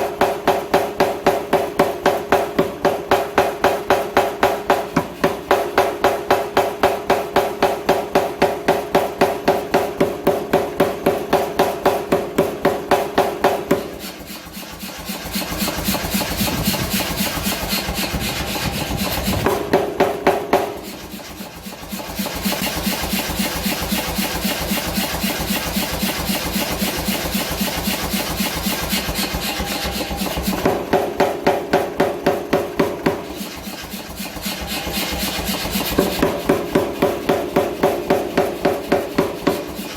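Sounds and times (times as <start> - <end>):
power hammer striking hot steel: 0.0 - 39.9.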